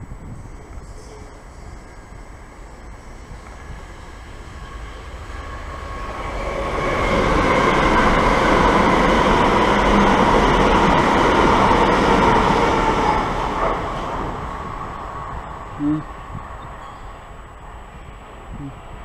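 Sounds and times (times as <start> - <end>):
train passing at speed: 0.0 - 19.0
wheels rushing on rail: 0.0 - 19.0.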